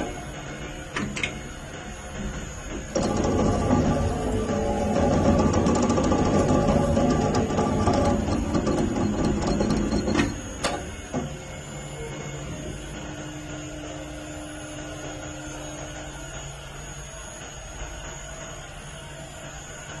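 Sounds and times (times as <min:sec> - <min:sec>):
winding machine whirring: 0:00.0 - 0:20.0.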